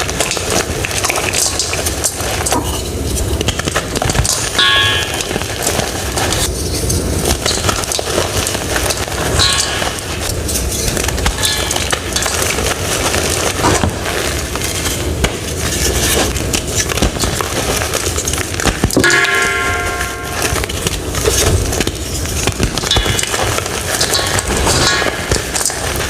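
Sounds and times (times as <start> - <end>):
crisp material crunching: 0.0 - 26.0.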